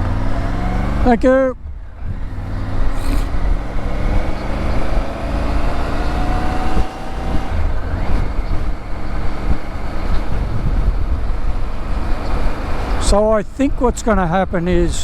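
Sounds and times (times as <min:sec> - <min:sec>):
motorcycle engine accelerating: 0:00.0 - 0:13.2
wind rumble on microphone: 0:01.6 - 0:15.0.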